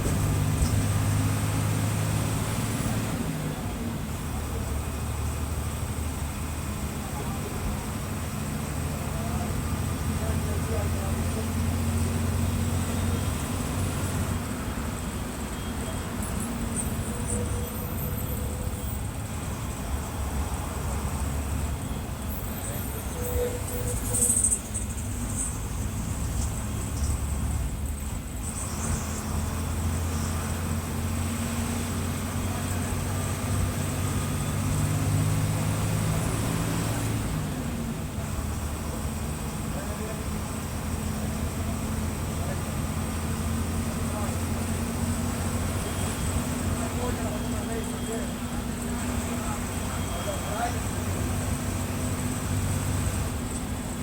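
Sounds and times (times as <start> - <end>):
bus diesel engine droning: 0.0 - 54.0
road noise: 0.0 - 54.0.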